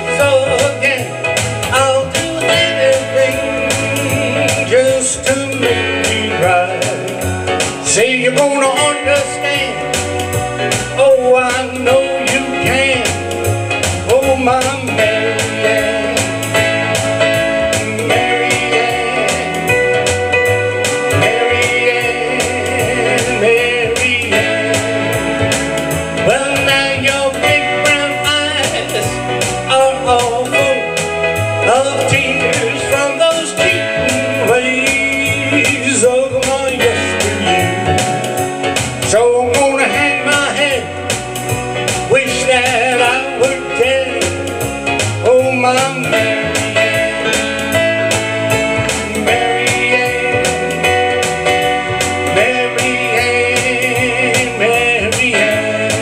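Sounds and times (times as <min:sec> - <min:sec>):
electronic keyboard organ chords: 0:00.0 - 0:56.0
programmed drum beat: 0:00.0 - 0:56.0.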